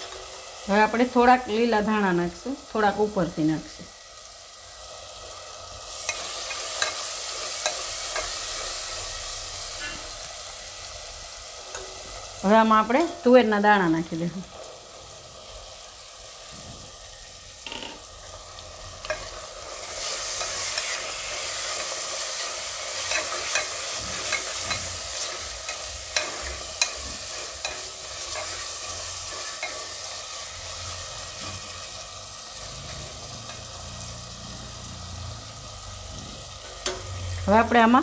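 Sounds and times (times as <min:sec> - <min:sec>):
peas sizzling in a pot: 0:00.0 - 0:38.0.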